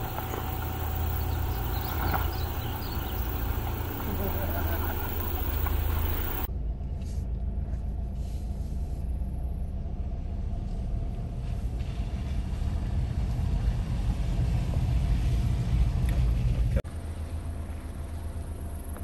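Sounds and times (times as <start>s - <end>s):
car rumbling inside cabin: 0.0s - 19.0s.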